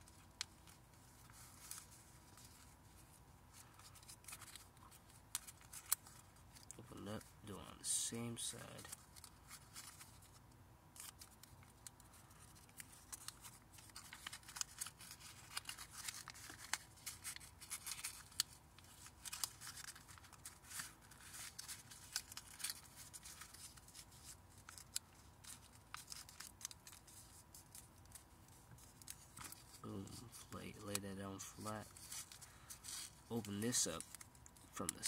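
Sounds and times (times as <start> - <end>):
paper crinkling: 0.0 - 7.3, 7.9 - 35.0.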